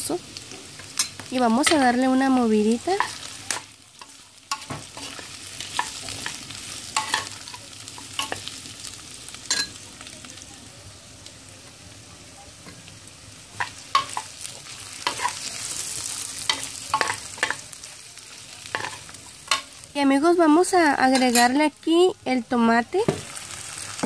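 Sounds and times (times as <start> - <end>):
meat and onion sizzling: 0.0 - 24.0.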